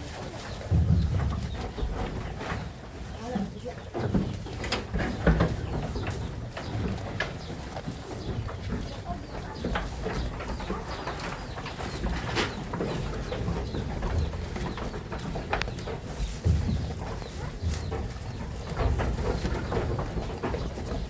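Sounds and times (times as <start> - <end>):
birds chirping: 0.2 - 21.0.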